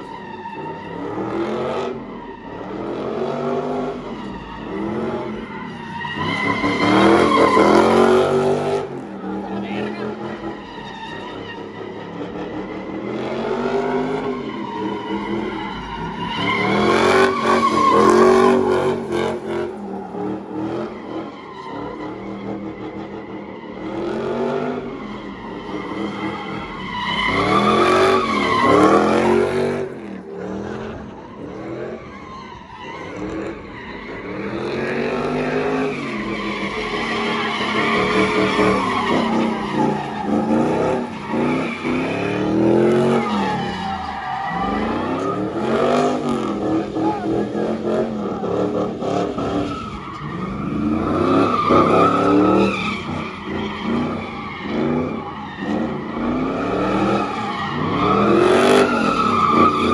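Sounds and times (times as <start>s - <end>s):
car engine revving: 0.0s - 59.9s
tires squealing: 0.0s - 59.9s.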